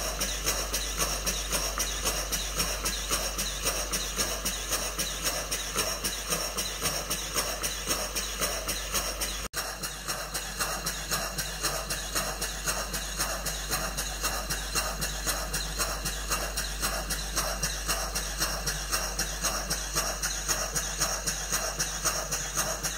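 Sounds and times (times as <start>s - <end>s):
model steam engine puffing: 0.0s - 22.9s.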